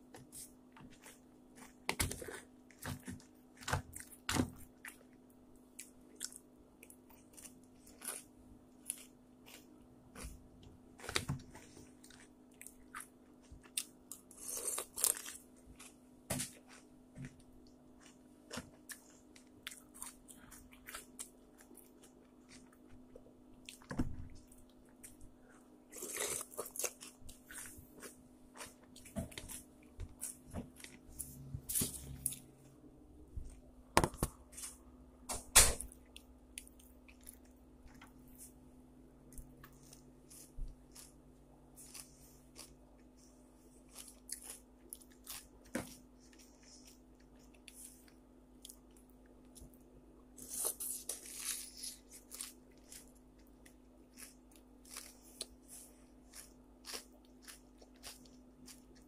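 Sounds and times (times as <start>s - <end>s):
person chewing and crunching food: 0.0s - 35.1s, 35.7s - 59.0s
steady low hum: 0.0s - 59.0s.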